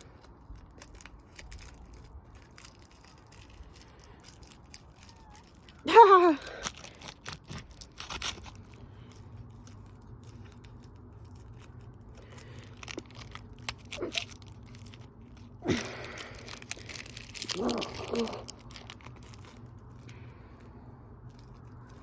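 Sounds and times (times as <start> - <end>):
rustling scrape: 0.0 - 5.8, 6.6 - 22.0
sharp clicks and crackling: 0.1 - 5.8, 6.4 - 22.0.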